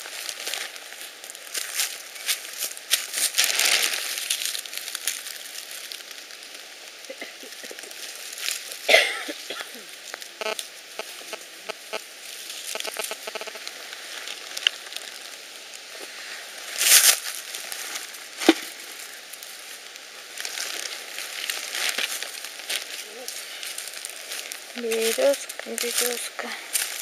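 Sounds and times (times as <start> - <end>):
leaf litter rustling and crackling: 0.0 - 27.0.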